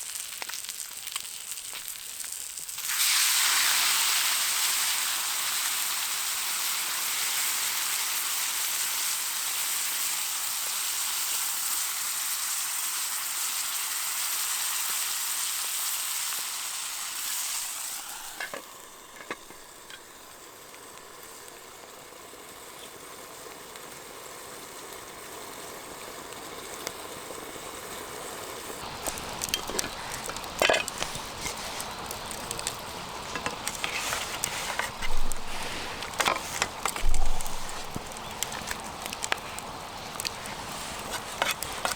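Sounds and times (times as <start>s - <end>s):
fish sizzling in a pan: 0.0s - 41.9s.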